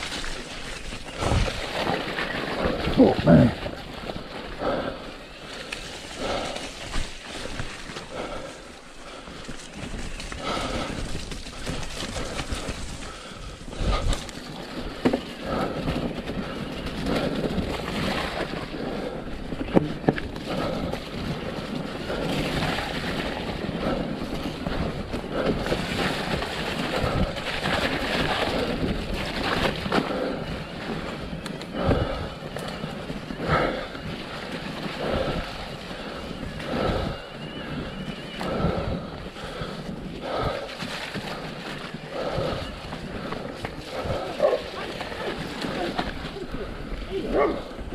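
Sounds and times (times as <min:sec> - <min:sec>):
bike rattling over rough ground: 0:00.0 - 0:47.9
bike tyres rolling through mud: 0:00.0 - 0:47.9
wind on microphone: 0:09.5 - 0:47.9.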